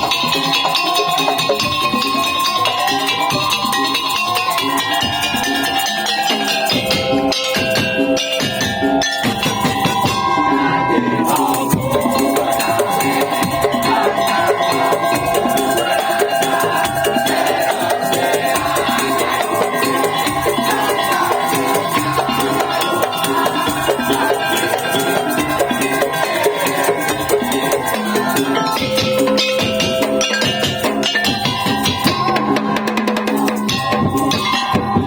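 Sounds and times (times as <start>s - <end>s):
ensemble playing fast dense drumming: 0.0s - 35.0s
pitched tones over drumming: 0.0s - 35.0s.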